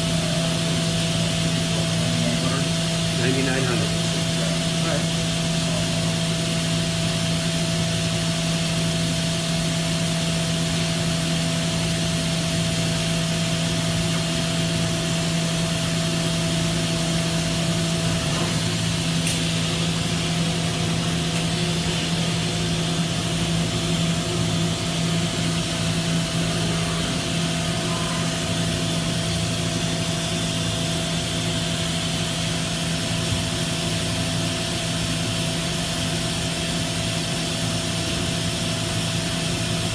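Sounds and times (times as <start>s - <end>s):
machining center humming: 0.0s - 39.9s.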